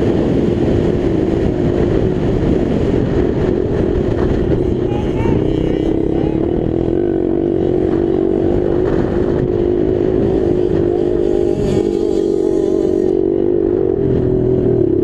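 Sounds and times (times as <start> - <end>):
motocross bike engine revving high: 2.4 - 15.0.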